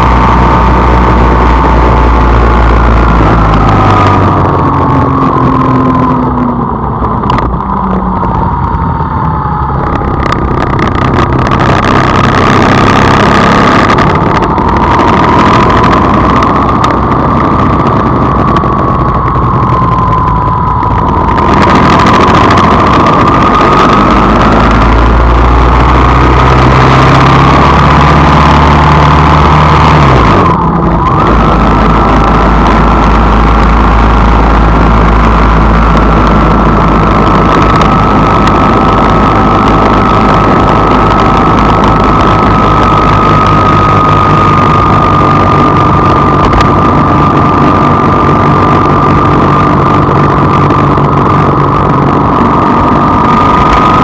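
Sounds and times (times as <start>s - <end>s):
car engine running: 0.0s - 54.0s
road noise: 0.0s - 54.0s.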